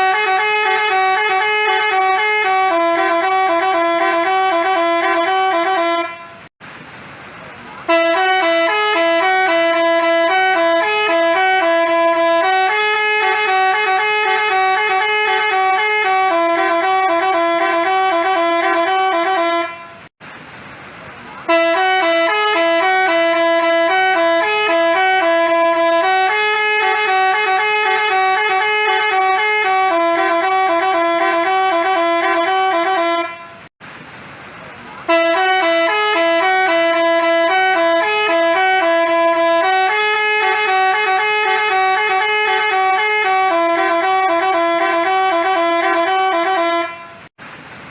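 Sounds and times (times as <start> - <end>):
bus horn playing a tune: 0.0 - 6.5, 7.8 - 20.1, 21.4 - 33.7, 35.0 - 47.4.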